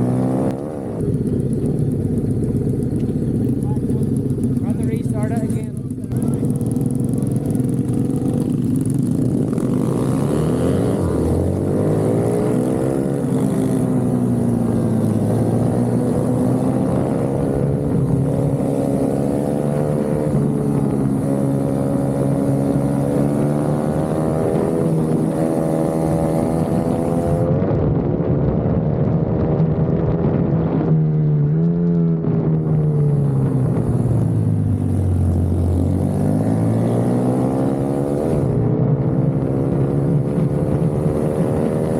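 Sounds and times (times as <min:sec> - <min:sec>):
minibike engine revving: 0:00.0 - 0:27.5, 0:33.4 - 0:41.9.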